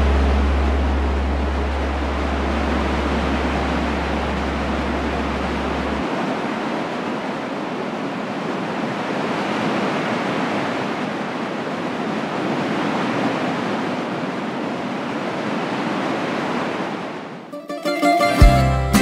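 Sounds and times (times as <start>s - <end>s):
waves breaking on a beach: 2.1s - 17.5s.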